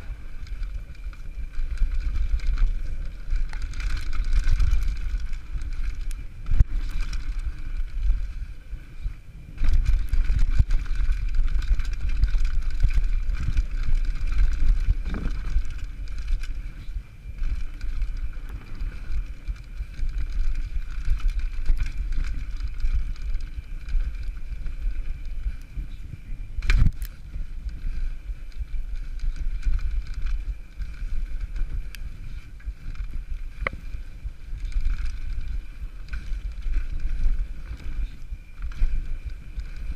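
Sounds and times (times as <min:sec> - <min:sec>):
bike knocks and rattles: 0:00.0 - 0:39.9
tyre and wind rumble: 0:00.0 - 0:39.9.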